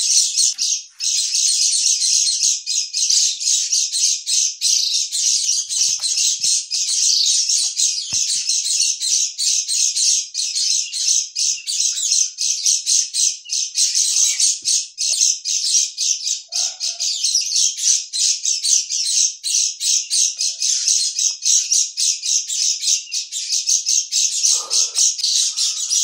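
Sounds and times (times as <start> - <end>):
birds chirping rapidly: 0.0 - 26.0.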